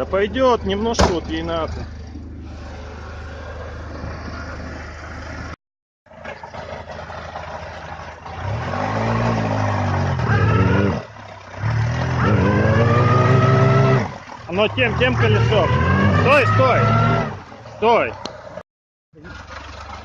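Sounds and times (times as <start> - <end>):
buggy engine revving: 0.0 - 18.6, 19.2 - 20.0.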